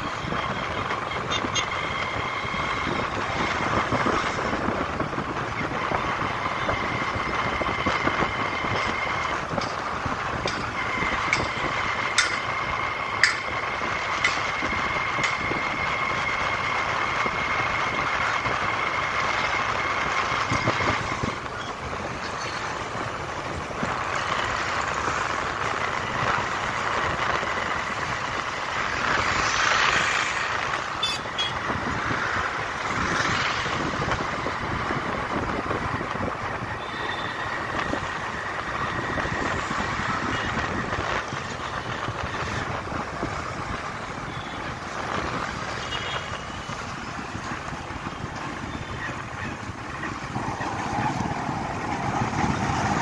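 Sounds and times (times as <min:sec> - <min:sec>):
passing traffic: 0:00.0 - 0:53.0
wind and road noise: 0:00.0 - 0:53.0.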